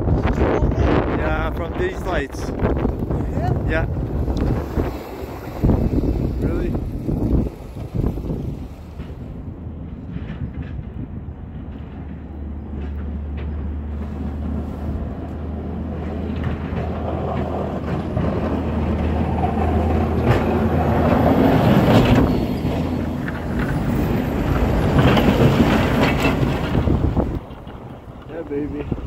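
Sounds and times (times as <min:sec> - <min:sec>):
diesel engine low drone: 0:00.0 - 0:29.0
plow blade pushing snow: 0:01.4 - 0:29.0
plow scraping snow: 0:01.9 - 0:29.0.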